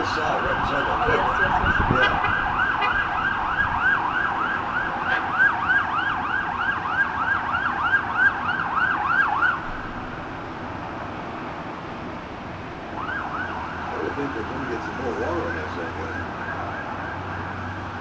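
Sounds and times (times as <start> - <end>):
emergency siren yelping: 0.0 - 10.1, 12.8 - 18.0.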